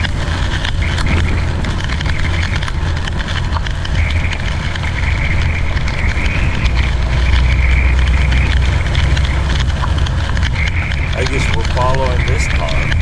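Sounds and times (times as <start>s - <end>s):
rain hissing: 0.0s - 13.0s
truck engine droning: 0.0s - 13.0s.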